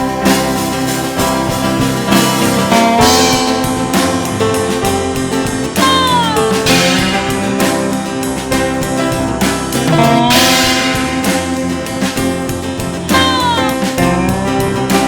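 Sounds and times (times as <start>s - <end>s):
band playing instrumental: 0.0s - 15.0s
sliding guitar lead line: 0.0s - 15.0s.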